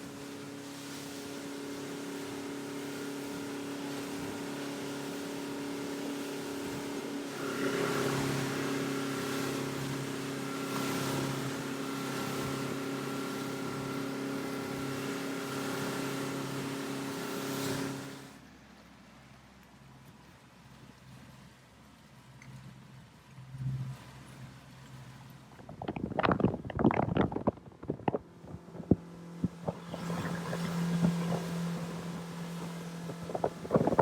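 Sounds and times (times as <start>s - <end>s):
boat motor running: 0.0s - 18.4s, 22.2s - 34.0s.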